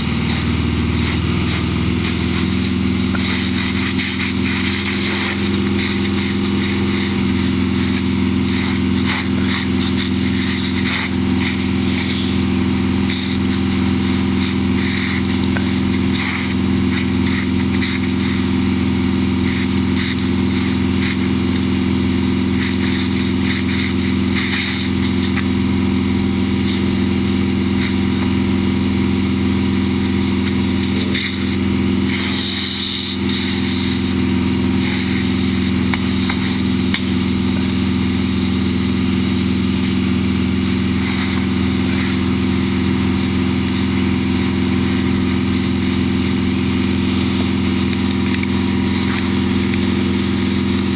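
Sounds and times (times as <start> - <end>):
fire engine idling: 0.0 - 50.9.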